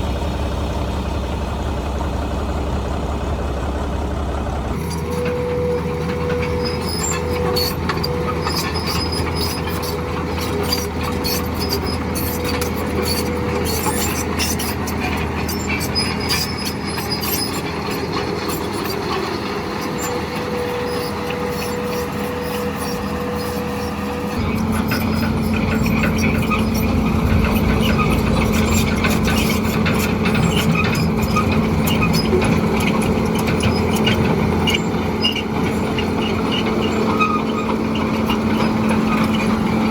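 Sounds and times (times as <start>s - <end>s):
diesel machinery running: 0.0s - 39.9s
metallic rattles and clanks: 4.7s - 39.9s
high squeal: 4.8s - 39.9s.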